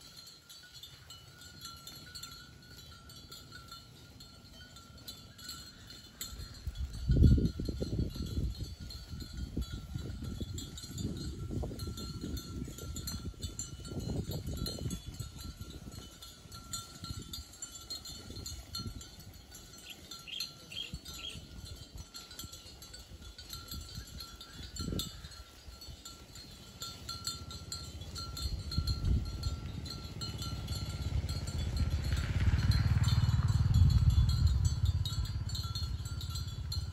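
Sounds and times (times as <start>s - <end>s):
cowbells ringing: 0.0s - 36.9s
wind rumble on microphone: 5.5s - 36.9s.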